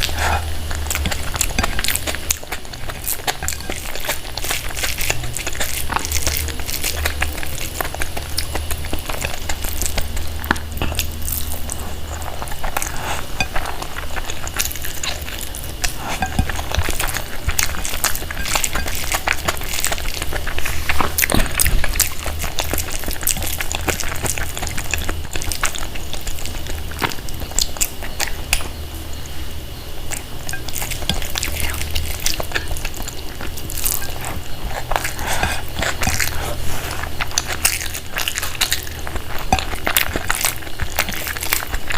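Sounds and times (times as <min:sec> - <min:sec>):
messy eating and chewing: 0:00.0 - 0:41.9
steady low hum: 0:00.0 - 0:41.9.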